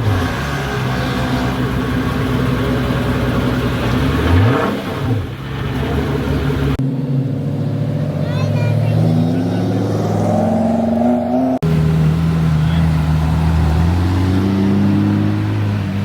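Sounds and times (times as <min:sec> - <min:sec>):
car engine idling: 0:00.0 - 0:10.4, 0:11.0 - 0:14.0.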